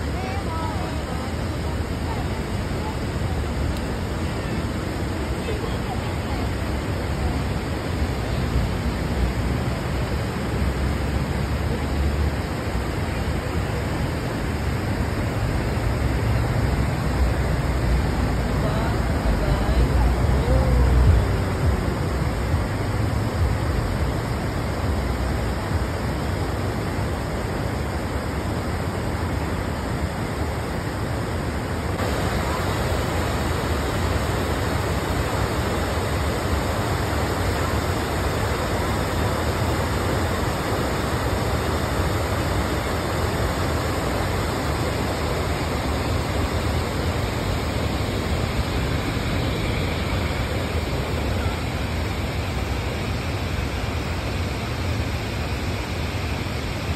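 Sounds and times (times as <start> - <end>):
river water pouring over weir: 0.0 - 56.9.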